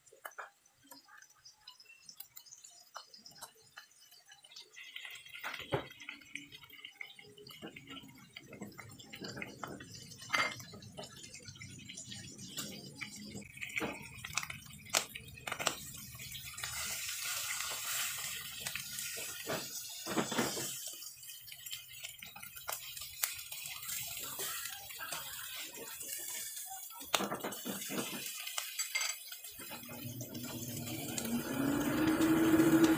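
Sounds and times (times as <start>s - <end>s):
fish sizzling in a wok: 0.0s - 32.9s.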